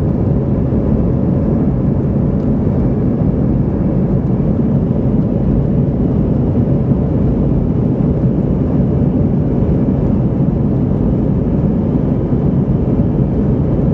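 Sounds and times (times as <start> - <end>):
airplane cabin engine rumble: 0.0 - 13.9.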